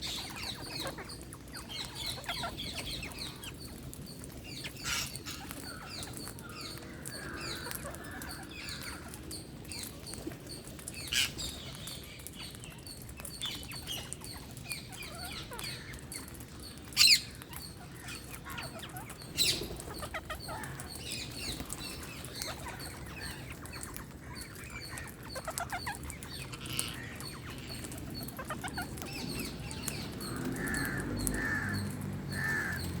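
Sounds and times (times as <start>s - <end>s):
parakeets chirping: 0.0s - 33.0s.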